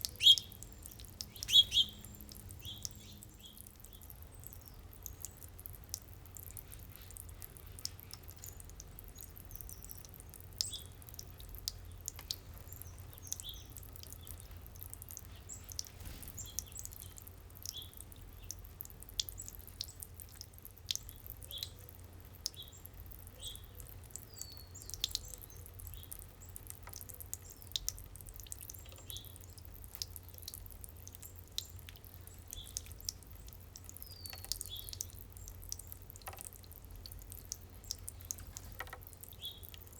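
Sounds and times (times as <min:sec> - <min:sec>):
fountain water trickling: 0:00.0 - 0:39.9
small birds chirping: 0:00.0 - 0:39.9.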